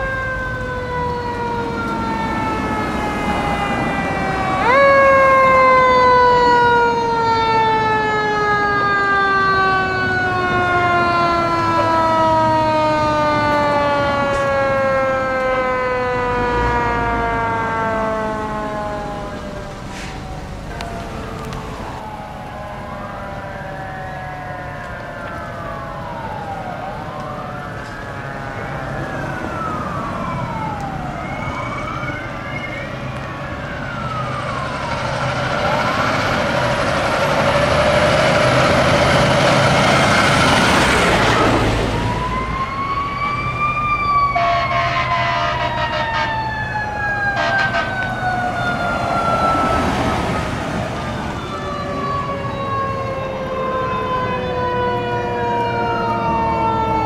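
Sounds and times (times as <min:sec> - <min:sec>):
fire engine siren wailing: 0:00.0 - 0:57.0.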